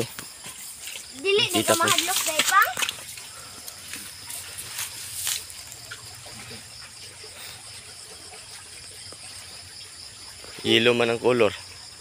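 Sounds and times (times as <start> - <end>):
stream water flowing: 0.0 - 12.0
water splashes: 0.0 - 12.0.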